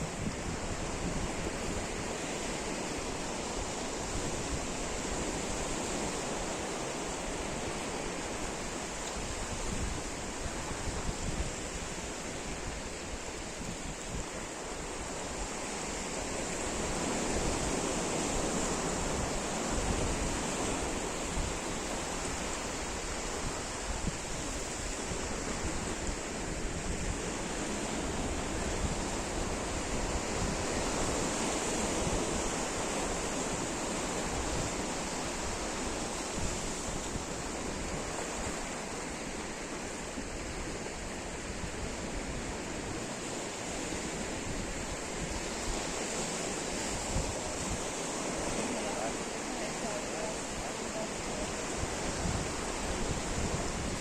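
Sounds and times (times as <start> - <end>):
waves breaking on shore: 0.0 - 54.0
wind buffeting microphone: 0.0 - 54.0.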